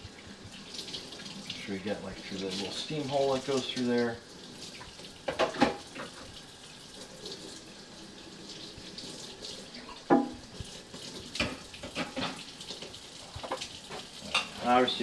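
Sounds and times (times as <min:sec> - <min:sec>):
tap water running: 0:00.0 - 0:15.0.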